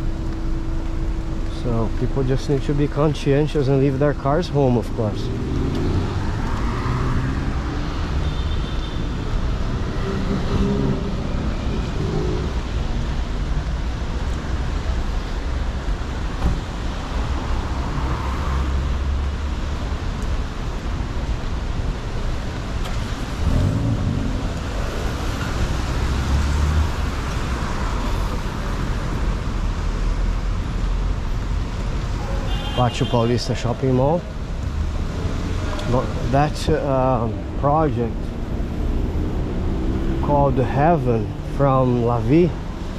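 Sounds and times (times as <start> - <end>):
loud vehicles passing: 0.0 - 42.9
traffic on wet road: 0.0 - 42.9.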